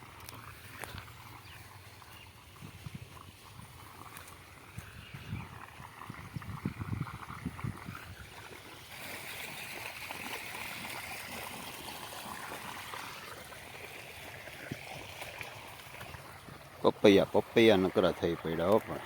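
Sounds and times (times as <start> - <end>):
water rushing into field: 0.0 - 19.0.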